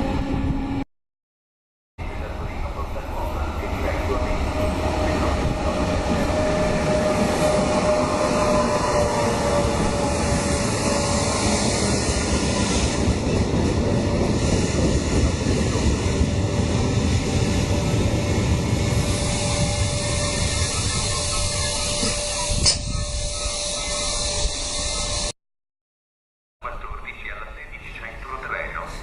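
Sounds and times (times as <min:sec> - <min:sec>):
train rumbling: 0:02.0 - 0:25.3.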